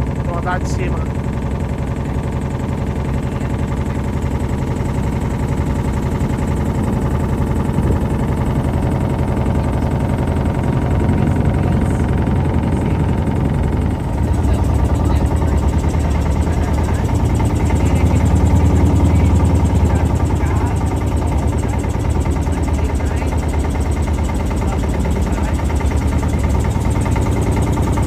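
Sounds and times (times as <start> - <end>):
motorboat engine running: 0.0 - 28.0.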